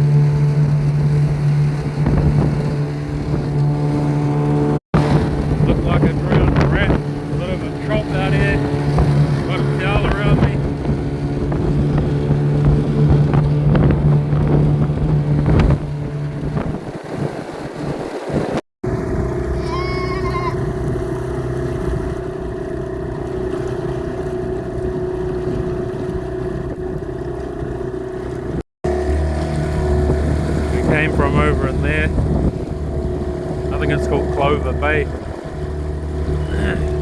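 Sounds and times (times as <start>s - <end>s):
choppy sea: 0.0s - 37.0s
outboard motor running: 0.0s - 37.0s.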